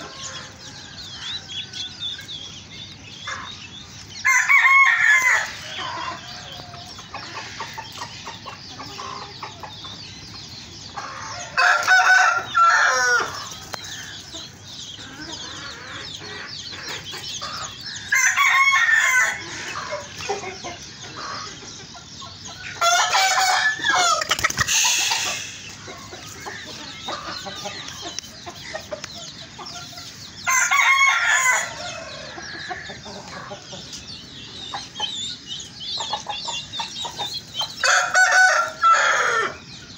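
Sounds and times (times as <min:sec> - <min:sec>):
roosters crowing: 0:00.0 - 0:35.2, 0:36.0 - 0:39.9
hens clucking: 0:00.0 - 0:39.9.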